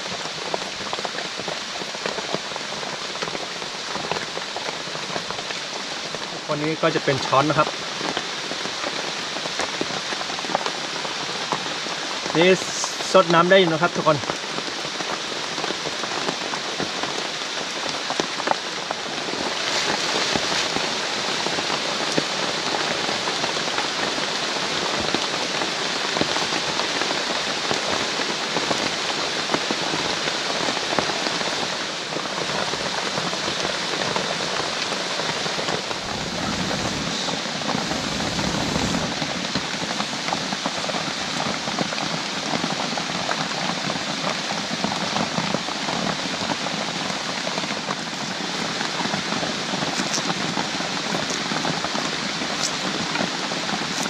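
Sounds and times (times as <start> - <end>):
heavy rain: 0.0 - 54.0
raindrops ticking on surfaces: 0.0 - 54.0.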